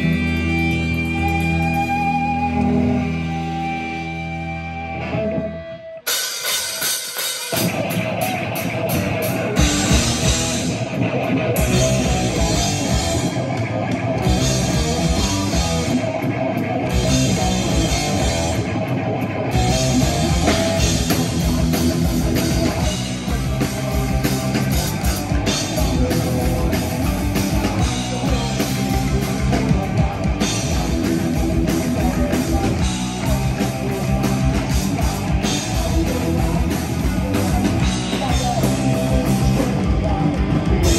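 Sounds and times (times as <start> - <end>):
heavy metal band playing: 0.0 - 40.9.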